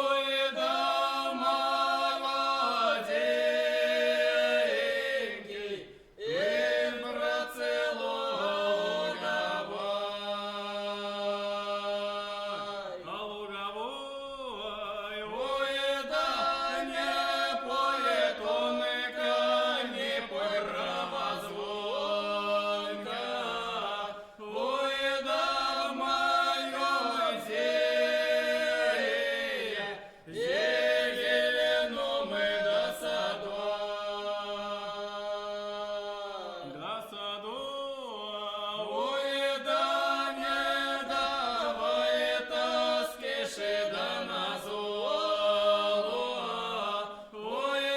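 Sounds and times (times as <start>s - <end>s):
voices singing in harmony: 0.0s - 47.9s.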